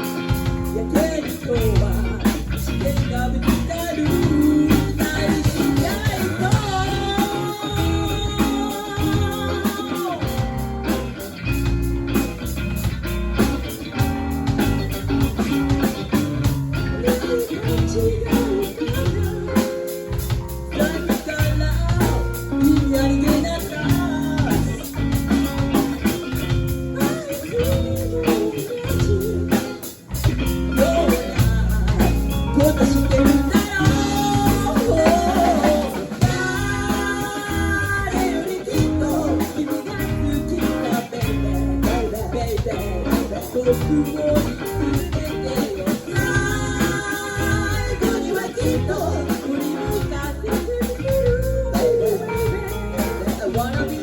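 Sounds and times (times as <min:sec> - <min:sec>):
rock band instrumental: 0:00.0 - 0:54.0.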